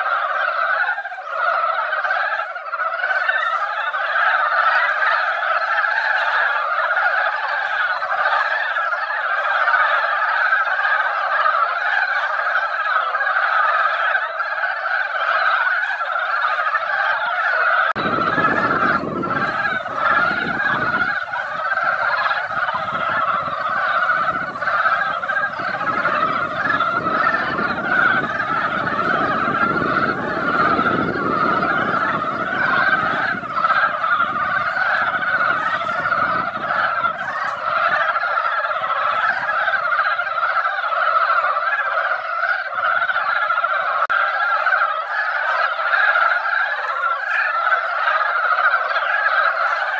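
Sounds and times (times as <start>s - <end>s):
frogs croaking in chorus: 0.0s - 49.9s.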